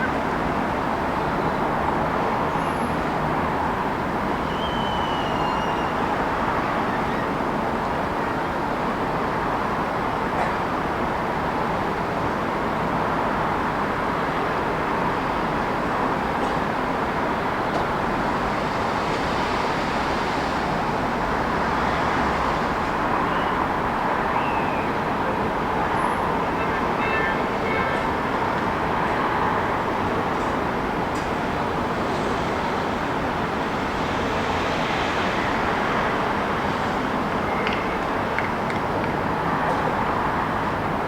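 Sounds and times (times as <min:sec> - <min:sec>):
city traffic noise: 0:00.0 - 0:41.0.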